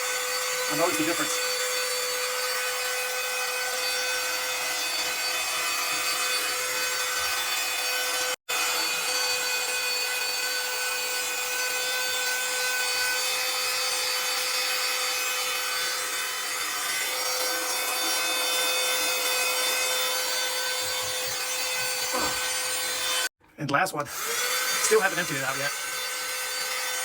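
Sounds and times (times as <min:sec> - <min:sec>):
handheld vacuum cleaner running: 0:00.0 - 0:23.3, 0:24.0 - 0:27.0.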